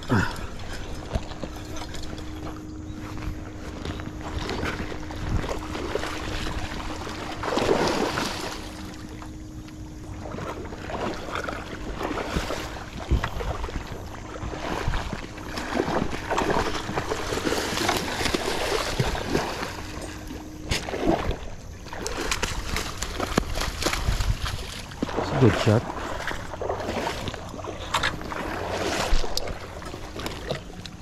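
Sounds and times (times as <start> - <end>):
river water splashing: 0.0 - 31.0.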